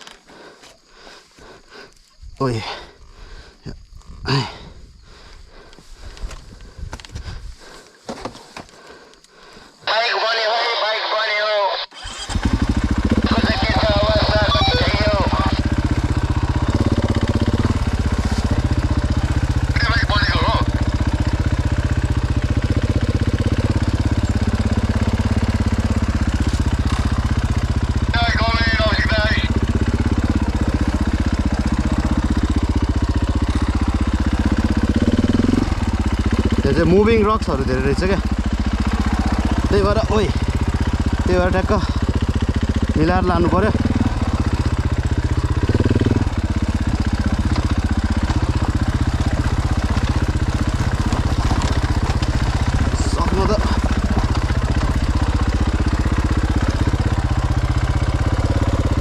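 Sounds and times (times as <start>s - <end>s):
dirt bike engine running: 0.0s - 10.1s, 12.0s - 59.0s.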